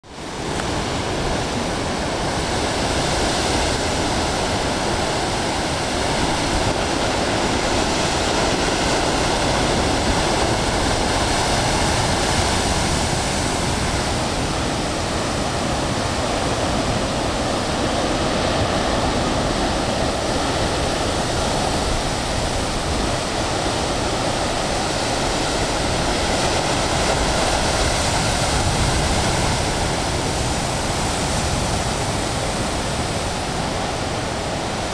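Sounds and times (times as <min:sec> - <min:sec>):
heavy surf breaking on rocks: 0:00.2 - 0:34.9.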